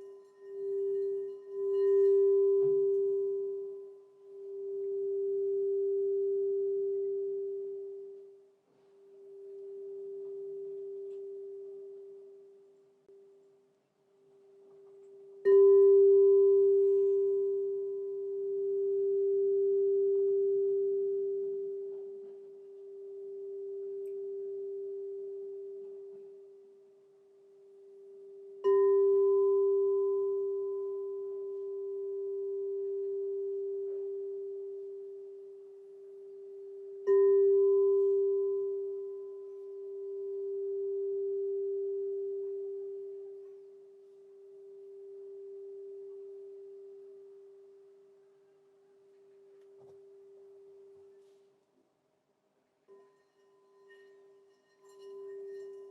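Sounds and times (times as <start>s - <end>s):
crystal singing bowl ringing: 0.0s - 8.5s, 9.2s - 12.6s, 14.8s - 48.3s, 52.9s - 55.9s.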